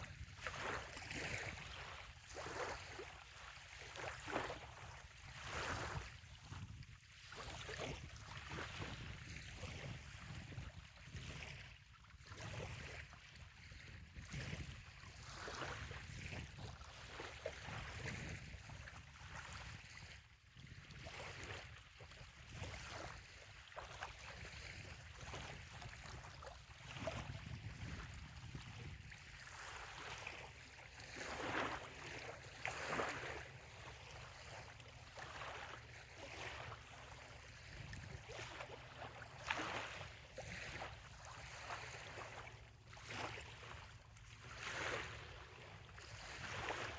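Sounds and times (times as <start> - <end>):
small waves lapping on shore: 0.0 - 46.9.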